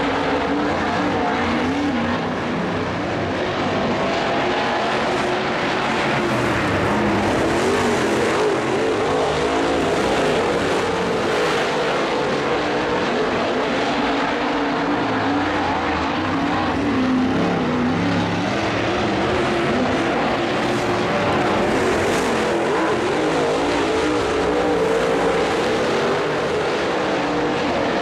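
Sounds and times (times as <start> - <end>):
race car engines roaring: 0.0 - 28.0.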